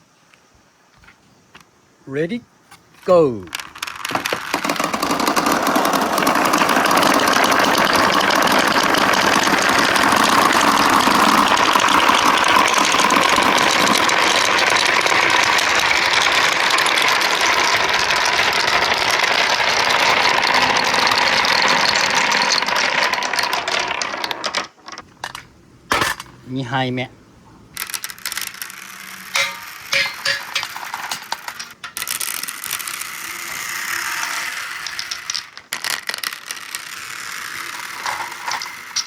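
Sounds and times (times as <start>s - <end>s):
marbles rattling down tracks: 3.5s - 25.4s, 27.8s - 39.0s.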